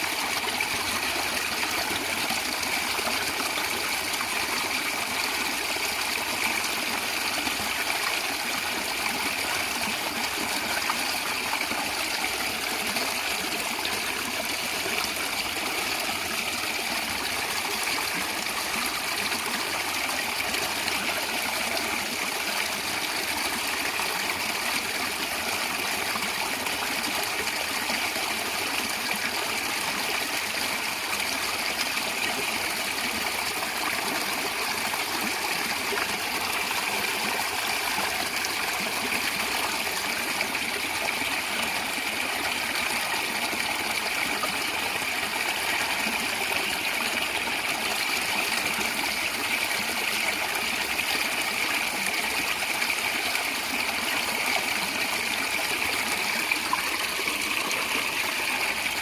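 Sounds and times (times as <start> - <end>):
stream water gurgling: 0.0 - 59.0.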